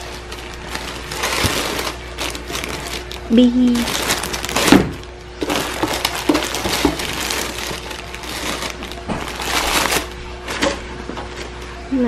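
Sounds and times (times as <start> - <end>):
plastic bags and paper rustling: 0.0 - 11.8.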